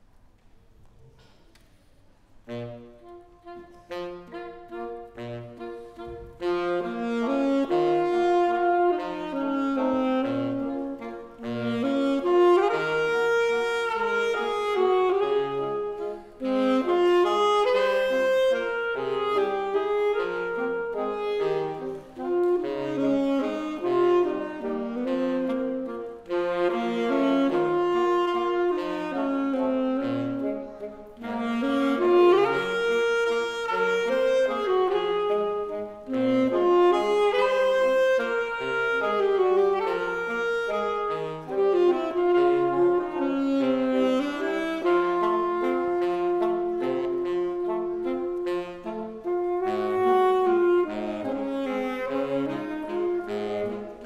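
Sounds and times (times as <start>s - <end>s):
saxophone quartet playing a waltz: 2.1s - 54.0s.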